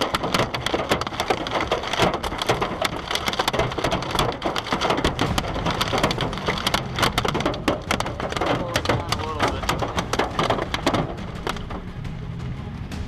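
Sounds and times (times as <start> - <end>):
heavy rain pelting a hard surface: 0.0 - 13.0
steady low rumble: 0.0 - 13.0.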